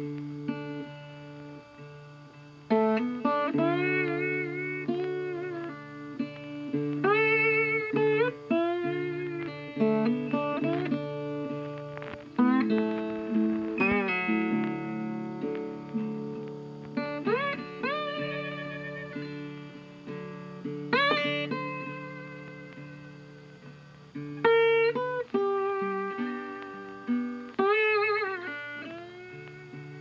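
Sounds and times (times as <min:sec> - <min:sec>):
jazz guitar with bending notes: 0:00.0 - 0:30.0.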